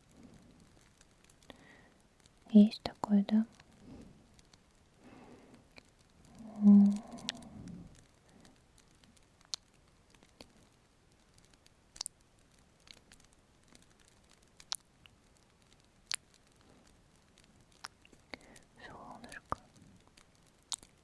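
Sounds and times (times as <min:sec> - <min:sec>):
fire crackling: 0:00.0 - 0:21.0.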